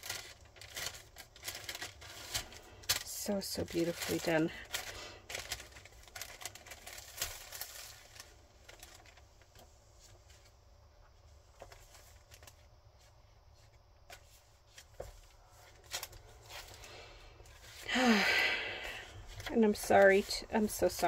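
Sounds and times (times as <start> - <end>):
paper pages rustling: 0.0 - 17.9, 18.8 - 21.0.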